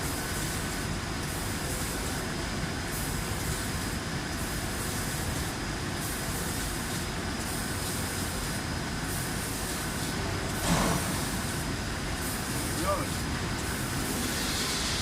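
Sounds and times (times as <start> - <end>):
coating machine humming and hissing: 0.0 - 15.0.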